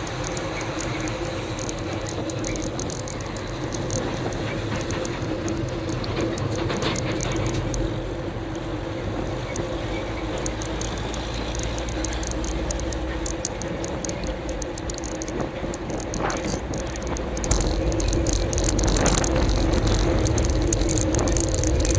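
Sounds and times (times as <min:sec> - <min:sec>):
light rattle of clicks: 0:00.0 - 0:21.9
vehicle engine rumbling: 0:00.0 - 0:21.9.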